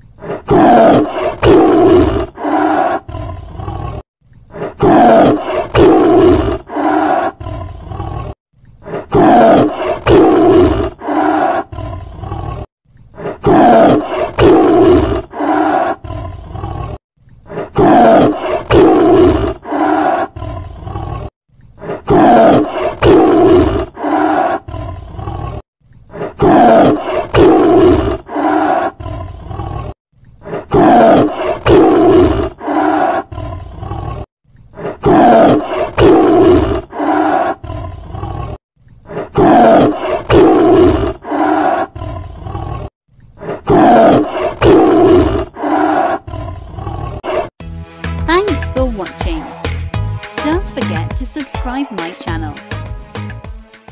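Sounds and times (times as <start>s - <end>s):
lion roaring: 0.2s - 47.5s.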